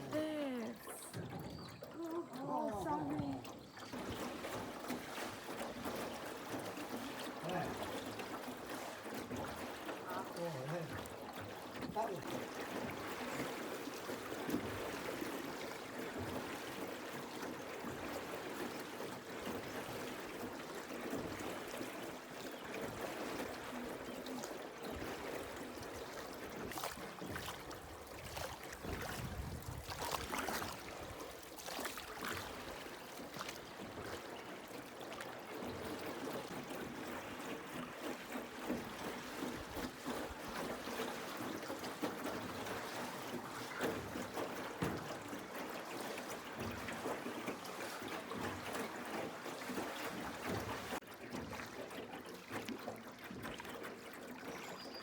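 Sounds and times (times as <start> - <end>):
oar drips and splashes: 0.0 - 55.0
water lapping around a rowboat: 0.0 - 55.0.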